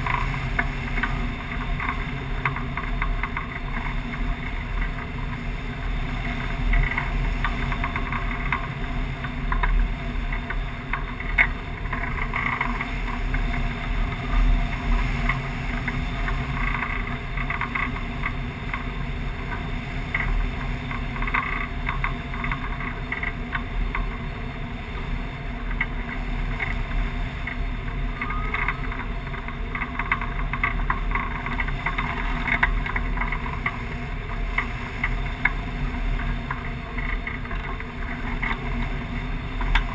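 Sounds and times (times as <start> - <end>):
wind rushing and buffeting: 0.0 - 39.9.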